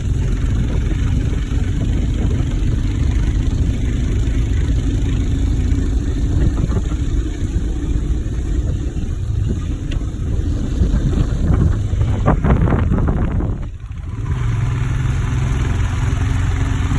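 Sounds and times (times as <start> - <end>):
motorcycle engine rumbling: 0.0 - 16.9.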